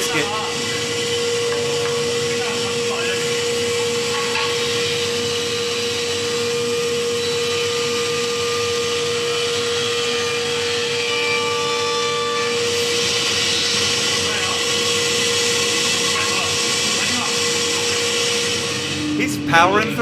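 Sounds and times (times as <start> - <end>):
woodworking power tool hissing: 0.0 - 20.0.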